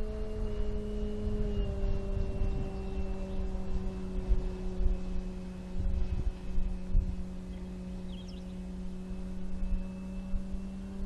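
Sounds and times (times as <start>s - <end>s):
model airplane motor humming: 0.0s - 11.0s
wind gusting on microphone: 0.0s - 11.0s.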